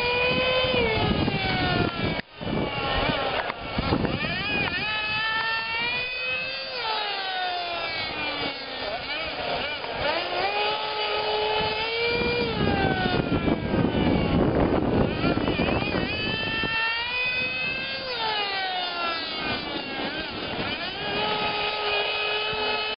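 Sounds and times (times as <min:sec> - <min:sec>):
small motor whining: 0:00.0 - 0:23.0.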